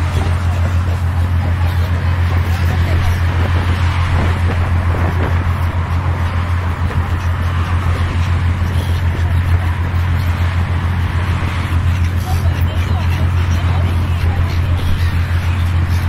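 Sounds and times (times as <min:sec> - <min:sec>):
constant rushing noise: 0:00.0 - 0:16.0
low mechanical drone: 0:00.0 - 0:16.0.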